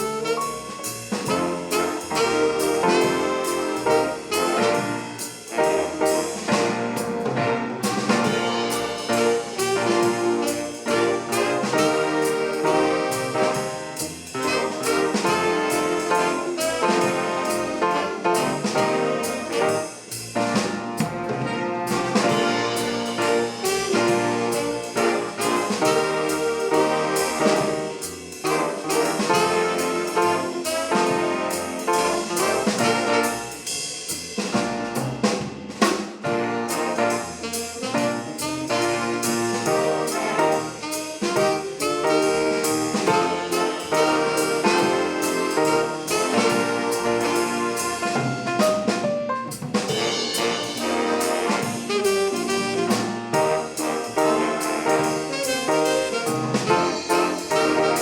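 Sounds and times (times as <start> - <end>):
big band playing swing jazz: 0.0 - 58.0
drum kit beat: 0.0 - 58.0.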